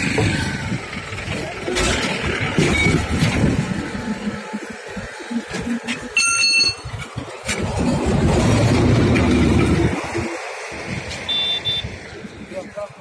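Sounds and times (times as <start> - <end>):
heavy vehicle rumbling past: 0.0 - 6.1, 6.8 - 12.9
highway traffic passing: 0.0 - 13.0.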